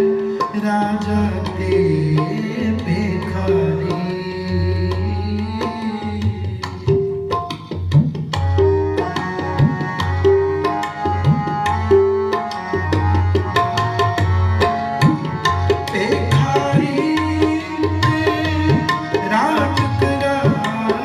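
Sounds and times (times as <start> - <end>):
tabla playing: 0.0 - 21.0.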